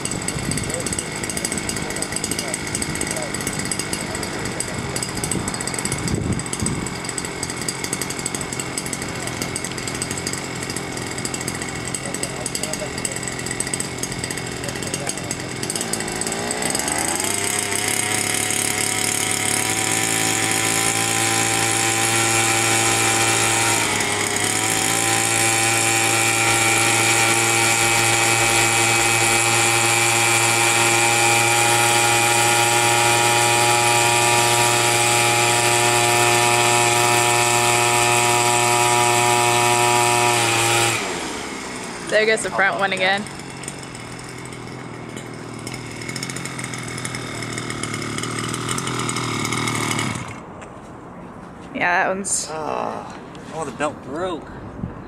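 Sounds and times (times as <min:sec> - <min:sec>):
gasoline engine of drone running: 0:00.0 - 0:50.5.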